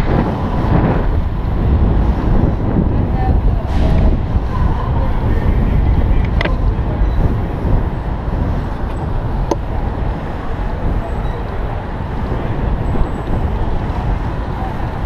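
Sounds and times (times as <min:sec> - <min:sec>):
city traffic: 0:00.0 - 0:15.0
wind on microphone: 0:00.0 - 0:15.0.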